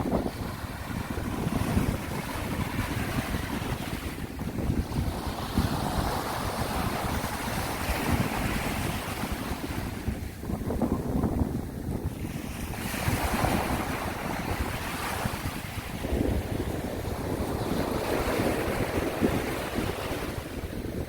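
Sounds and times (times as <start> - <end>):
sea waves washing onto shore: 0.0 - 21.0
wind buffeting microphone: 0.0 - 21.0.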